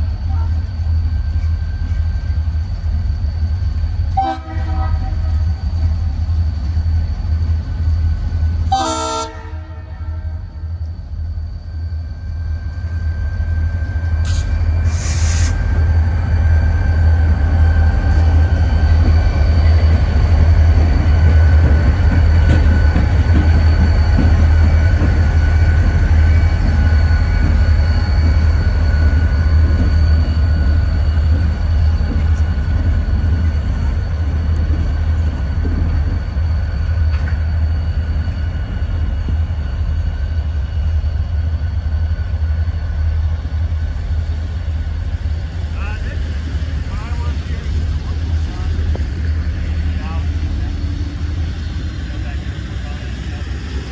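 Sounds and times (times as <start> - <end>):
diesel locomotive engines rumbling: 0.0 - 53.9.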